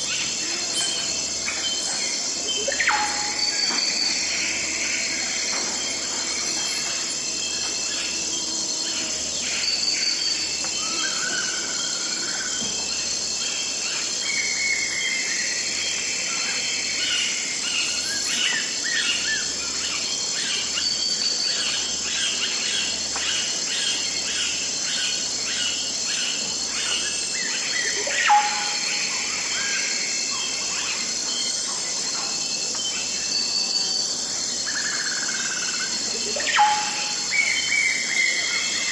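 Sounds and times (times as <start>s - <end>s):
birds whistling and chirping: 0.0s - 38.9s
high drone of insects: 0.0s - 38.9s.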